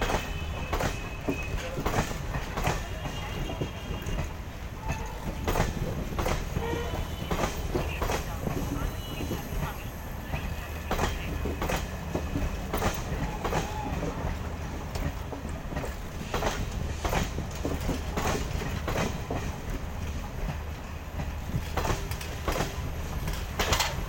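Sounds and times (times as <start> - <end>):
wheel clacks over rail joints: 0.0 - 9.5, 10.8 - 24.0
train coaches rumbling past: 0.0 - 24.0.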